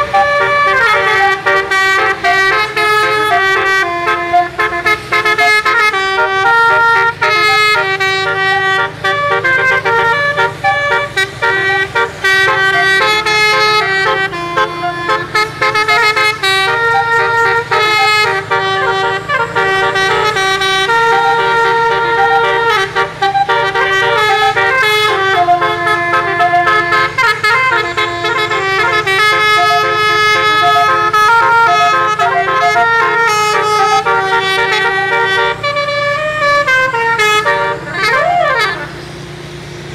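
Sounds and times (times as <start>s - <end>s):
bus horns playing melody: 0.0s - 39.9s.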